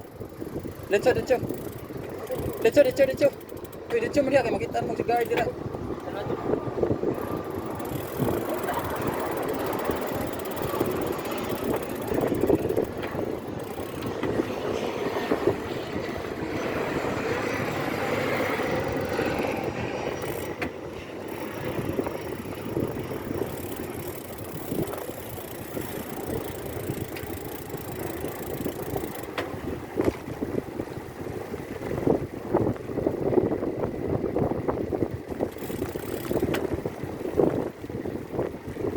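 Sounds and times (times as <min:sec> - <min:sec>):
road traffic: 0:00.0 - 0:38.9
wind on microphone: 0:00.0 - 0:38.9.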